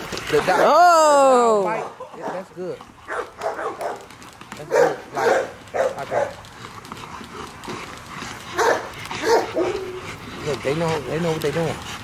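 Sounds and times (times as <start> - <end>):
young dogs barking: 0.3 - 12.0.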